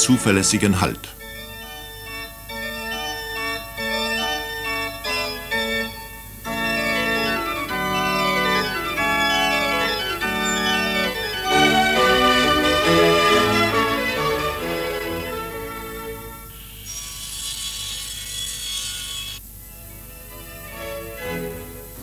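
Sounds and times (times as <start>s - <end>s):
organ music: 0.0s - 16.7s, 19.7s - 22.0s.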